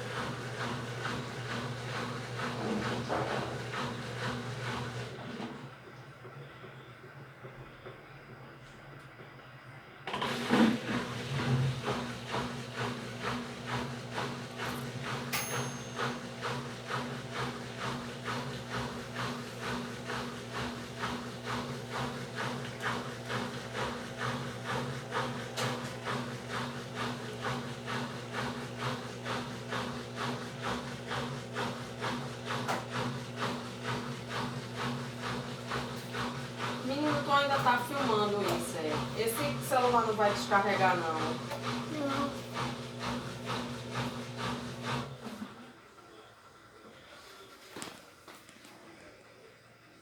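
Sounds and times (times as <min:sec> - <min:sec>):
washing machine swishing: 0:00.0 - 0:05.8, 0:10.1 - 0:15.3, 0:16.1 - 0:45.6
washing machine motor hum: 0:00.0 - 0:50.0.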